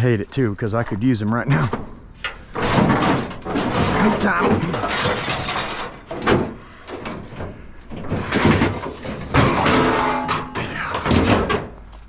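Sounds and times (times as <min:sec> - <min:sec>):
scrap metal banging and clattering: 0:01.6 - 0:12.0.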